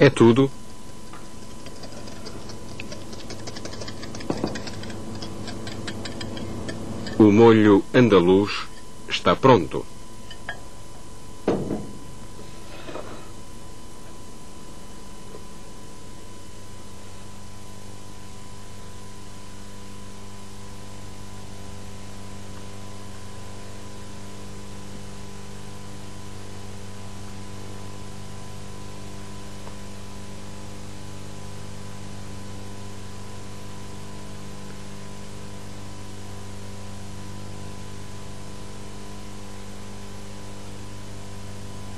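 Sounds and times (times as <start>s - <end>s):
electrical mains hum: 0.0s - 41.9s.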